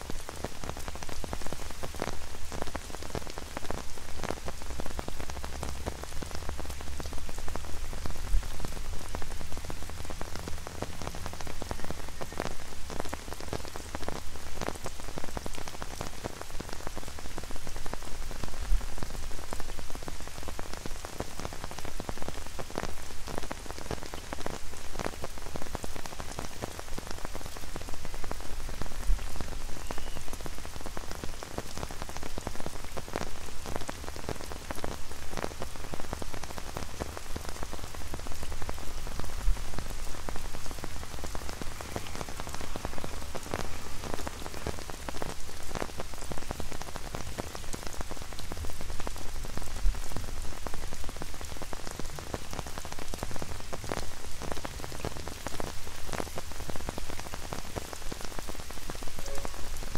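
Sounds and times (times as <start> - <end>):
rain hissing on wet paving: 0.0 - 59.9
rain pattering on an umbrella: 0.0 - 59.9.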